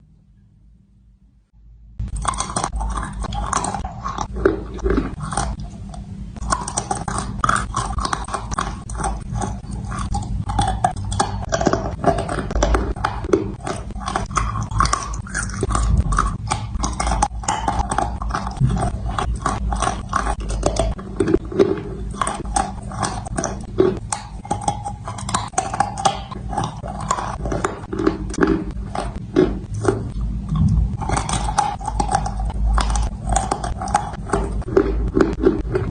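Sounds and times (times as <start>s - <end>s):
person crunching and chewing: 2.0s - 35.9s.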